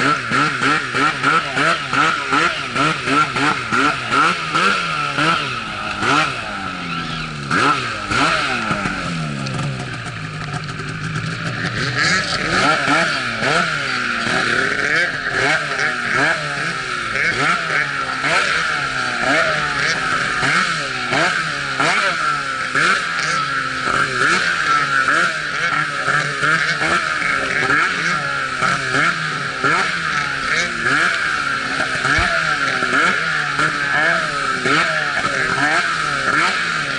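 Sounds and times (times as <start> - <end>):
snowmobile engine revving: 0.0 - 36.9.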